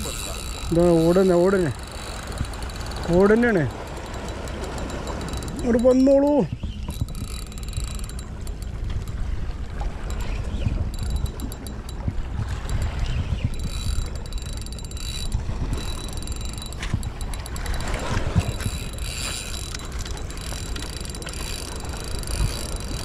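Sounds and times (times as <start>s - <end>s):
fishing reel ratcheting: 0.0s - 23.0s.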